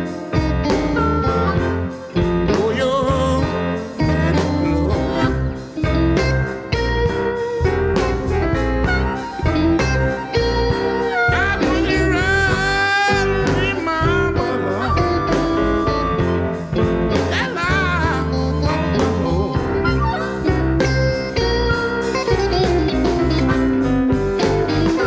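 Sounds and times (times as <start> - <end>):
bass: 0.0 - 25.0
bent wavering lead guitar notes: 0.0 - 25.0
drums: 0.0 - 25.0
piano: 0.0 - 25.0.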